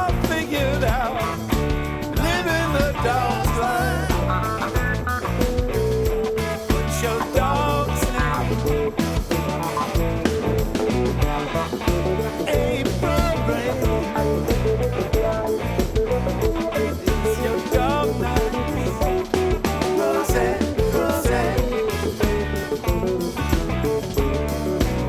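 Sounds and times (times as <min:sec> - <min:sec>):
guitar-led band music: 0:00.0 - 0:25.0.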